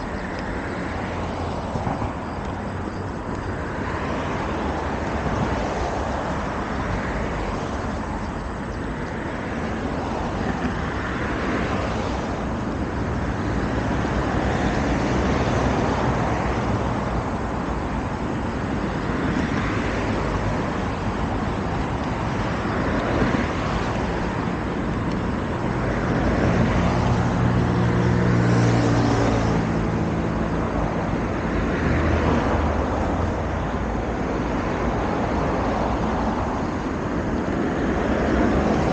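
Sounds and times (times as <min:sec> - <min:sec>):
cars passing: 0:00.0 - 0:38.9
heavy vehicle engine humming: 0:00.0 - 0:38.9.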